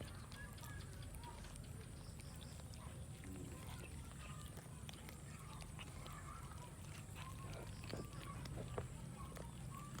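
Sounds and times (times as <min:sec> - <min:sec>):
cats chewing: 0:00.0 - 0:10.0.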